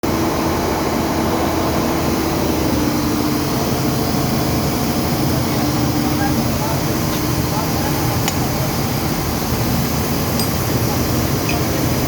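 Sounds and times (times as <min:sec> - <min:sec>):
generator engines droning: 0:00.0 - 0:12.0.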